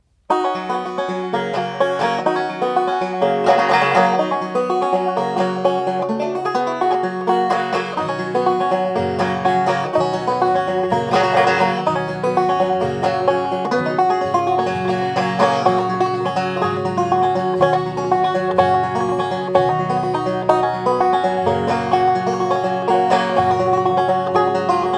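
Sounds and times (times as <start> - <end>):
banjo picking: 0.3 - 24.9.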